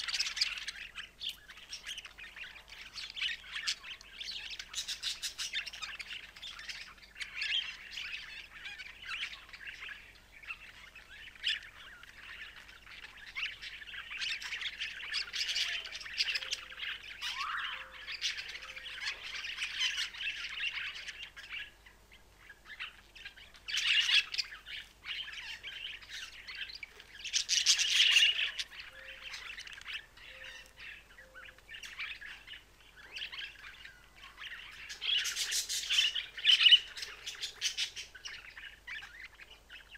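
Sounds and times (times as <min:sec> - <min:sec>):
budgerigars warbling and chirping: 0:00.0 - 0:39.9.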